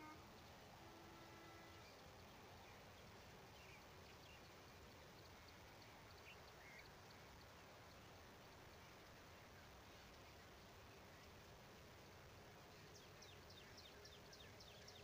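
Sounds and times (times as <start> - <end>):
faint high chirps and ticks: 0.0 - 15.0.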